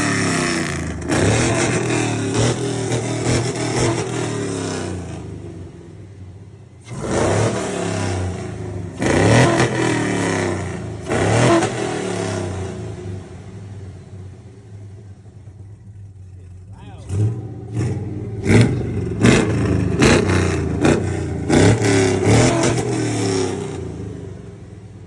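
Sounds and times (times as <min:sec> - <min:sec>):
truck engine revving and idling: 0:00.0 - 0:25.0.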